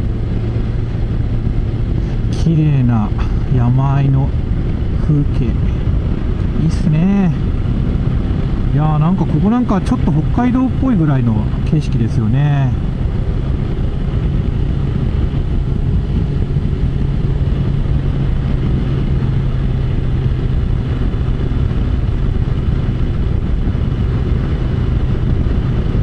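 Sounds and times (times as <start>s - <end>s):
motorcycle engine cruising: 0.0s - 26.0s
wind and road noise: 0.0s - 26.0s.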